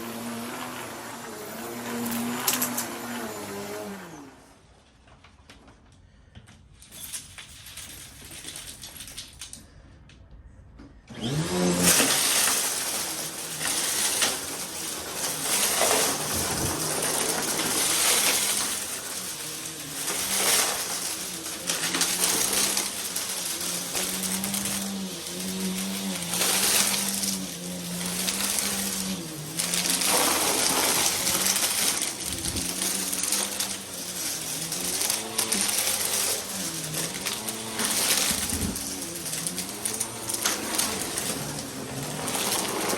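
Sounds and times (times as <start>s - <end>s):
vacuum cleaner running: 0.0s - 4.7s, 11.1s - 42.9s.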